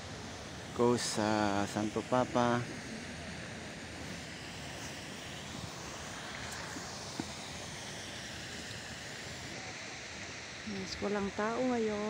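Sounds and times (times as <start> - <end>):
open-air background hiss: 0.0 - 12.0.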